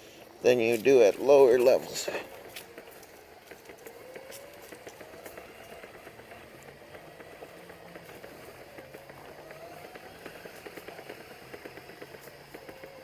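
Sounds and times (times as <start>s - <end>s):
footsteps crunching on trail: 0.0s - 13.0s.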